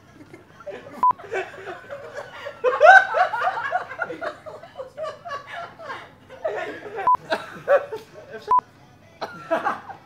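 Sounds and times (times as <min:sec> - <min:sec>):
person laughing: 0:00.1 - 0:08.6.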